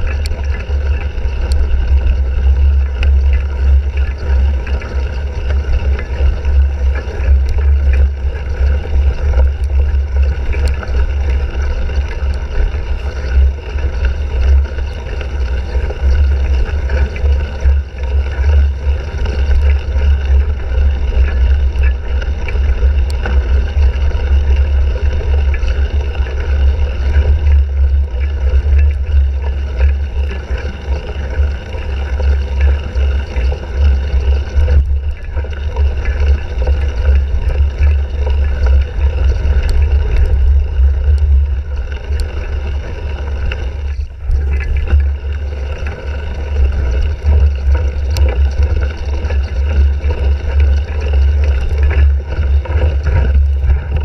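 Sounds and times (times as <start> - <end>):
bicycle riding rumble: 0.0 - 54.0.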